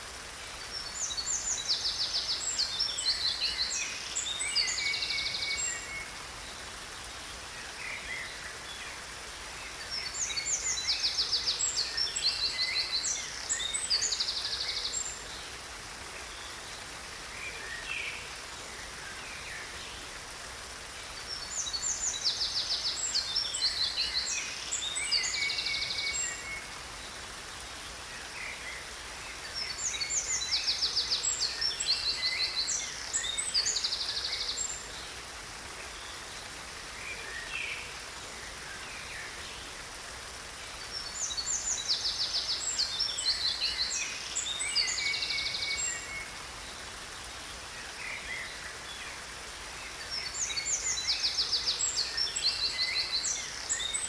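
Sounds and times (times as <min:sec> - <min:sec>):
waterfall rushing: 0:00.0 - 0:54.0
songbirds chirping and trilling: 0:00.1 - 0:54.0.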